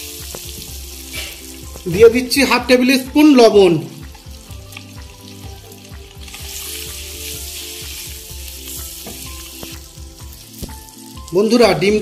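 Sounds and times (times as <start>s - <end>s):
eggs sizzling in hot oil: 0.0s - 12.0s.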